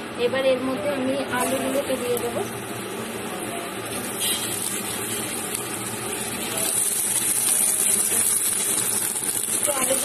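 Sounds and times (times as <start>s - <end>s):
potatoes sizzling in hot oil: 1.0s - 10.0s.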